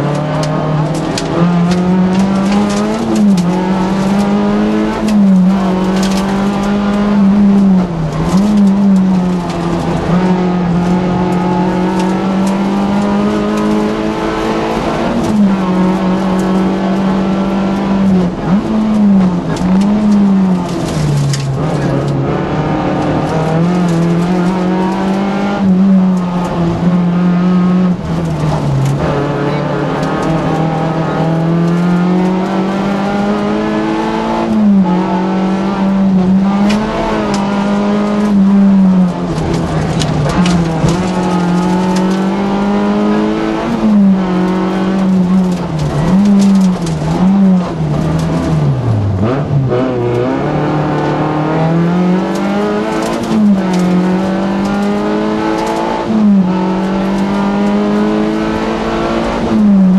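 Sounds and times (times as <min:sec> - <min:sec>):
car engine revving hard: 0:00.0 - 0:59.9.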